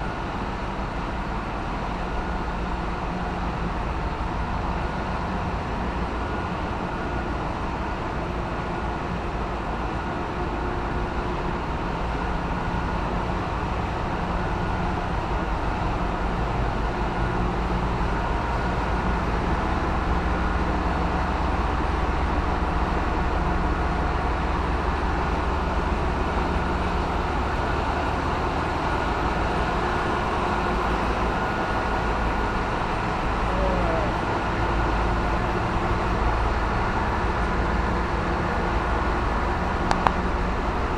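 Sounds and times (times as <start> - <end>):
engine-room machinery drone: 0.0 - 40.9.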